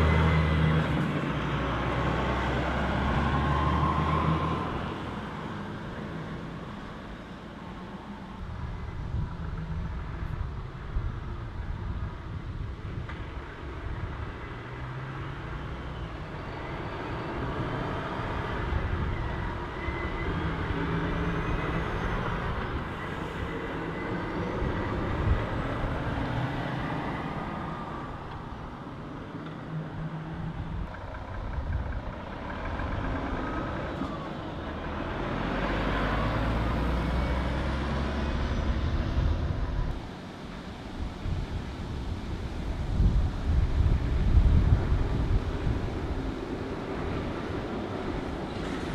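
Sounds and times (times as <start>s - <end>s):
lorry diesel engine pulling away: 0.0s - 10.3s, 13.4s - 48.9s
passing lorry rumble: 0.0s - 48.9s
tyre and road noise: 0.0s - 48.9s.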